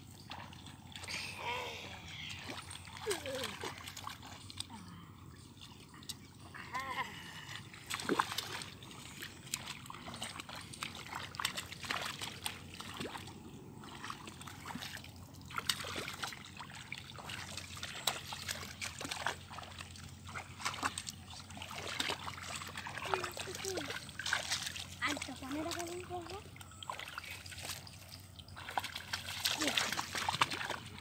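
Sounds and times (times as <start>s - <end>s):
feet wading through water: 0.0s - 31.0s.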